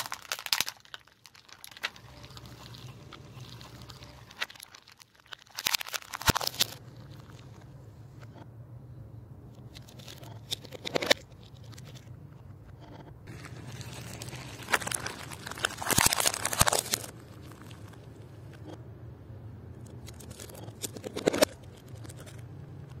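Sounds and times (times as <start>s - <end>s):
plastic cups crunching: 0.0s - 7.7s, 9.8s - 12.1s, 13.3s - 18.8s, 19.8s - 23.0s
faint low hum: 0.0s - 23.0s.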